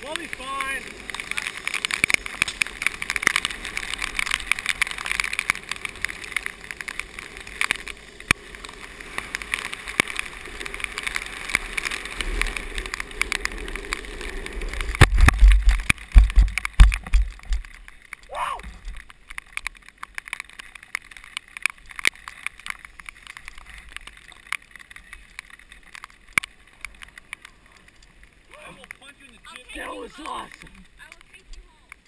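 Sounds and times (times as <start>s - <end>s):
longboard wheels rattling on pavement: 0.0s - 32.0s.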